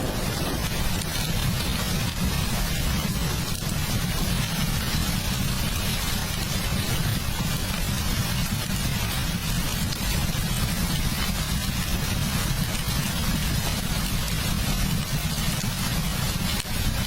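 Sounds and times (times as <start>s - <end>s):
deep rumble: 0.0s - 17.0s
heavy rain: 0.0s - 17.0s.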